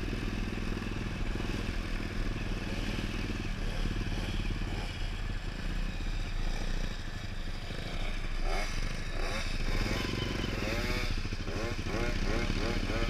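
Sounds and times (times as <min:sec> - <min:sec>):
motorcycle engines running: 0:00.0 - 0:13.0
wavering engine tone: 0:00.0 - 0:13.0.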